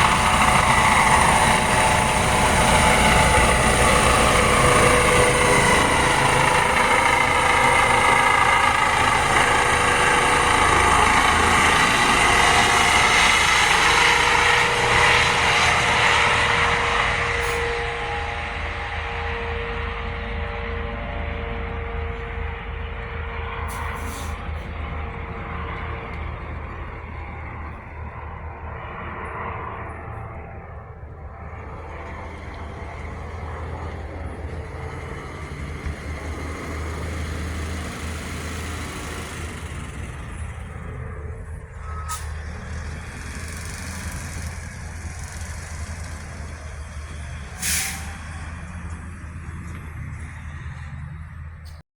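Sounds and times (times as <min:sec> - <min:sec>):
heavy vehicle engine idling: 0:00.0 - 0:51.8.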